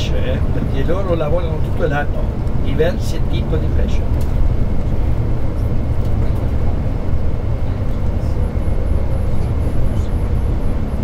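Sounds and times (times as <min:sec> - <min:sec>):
tyres on road: 0:00.0 - 0:11.0
vehicle engine rumble: 0:00.0 - 0:11.0.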